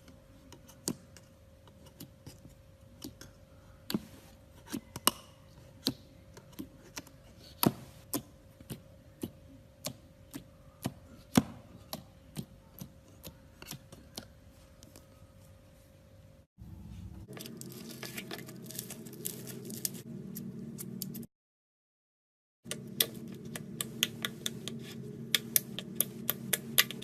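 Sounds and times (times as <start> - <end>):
faint steady hum: 0.0 - 21.3, 22.7 - 27.0.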